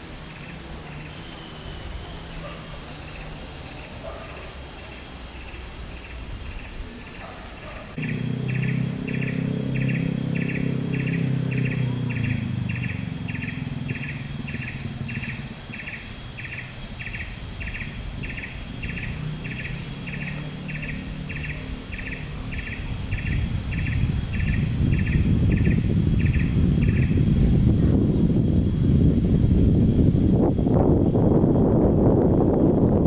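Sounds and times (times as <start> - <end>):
insect chirping: 0.0 - 31.7.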